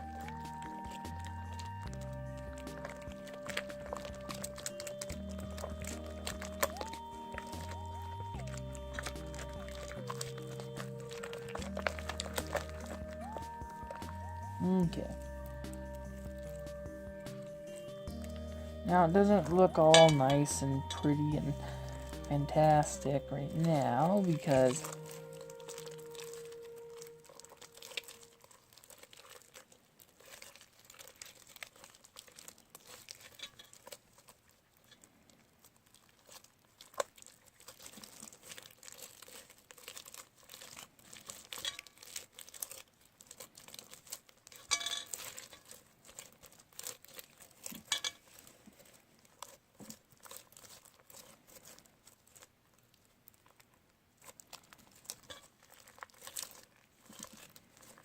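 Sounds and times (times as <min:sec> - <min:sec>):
slime crackling and tearing: 0:00.0 - 0:58.0.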